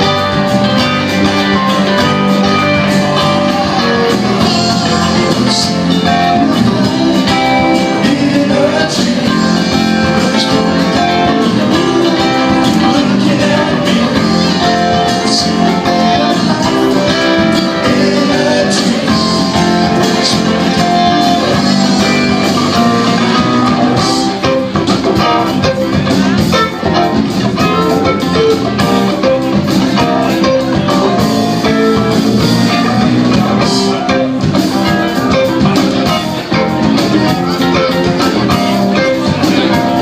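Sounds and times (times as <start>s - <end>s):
drum kit: 0.0s - 40.0s
guitars: 0.0s - 40.0s.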